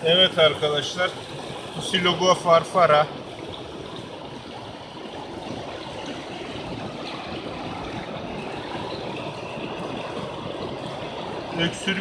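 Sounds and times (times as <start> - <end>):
stream of running water: 0.0 - 12.0.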